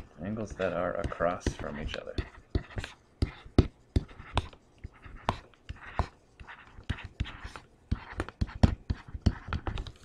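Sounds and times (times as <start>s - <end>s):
stylus scratchy strokes: 0.0s - 10.0s
stylus tapping on screen: 0.0s - 10.0s.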